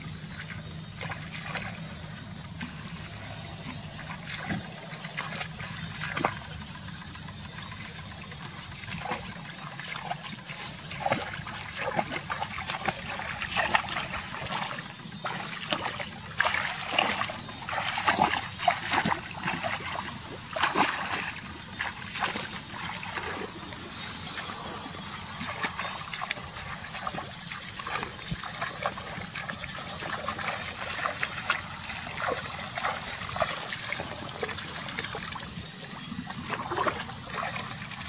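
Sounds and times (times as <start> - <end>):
water splashing and trickling: 0.0 - 38.0.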